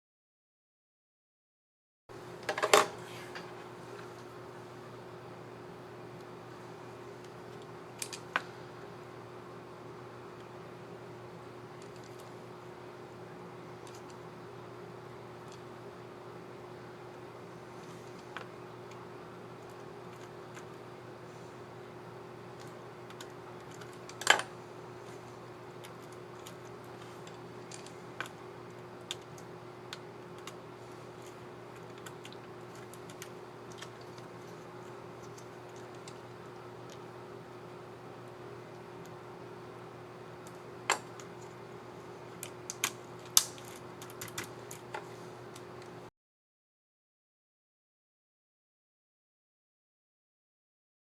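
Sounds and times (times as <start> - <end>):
faint steady hum: 2.1 - 46.1.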